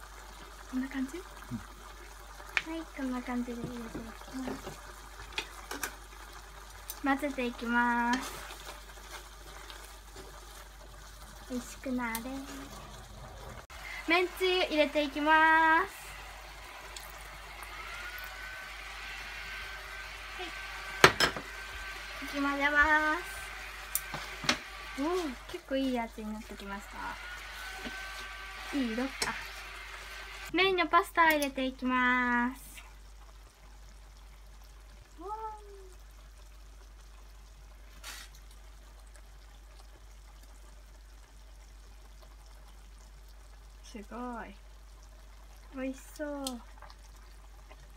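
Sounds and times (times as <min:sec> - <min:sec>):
sauce simmering with steady hiss: 0:00.0 - 0:47.9.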